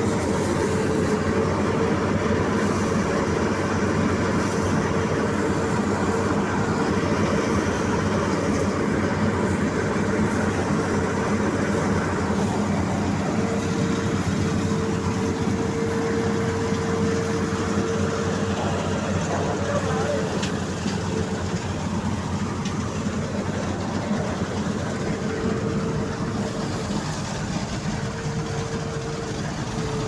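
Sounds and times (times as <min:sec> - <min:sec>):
combine harvester drone: 0:00.0 - 0:30.0
steady machine whine: 0:00.0 - 0:30.0.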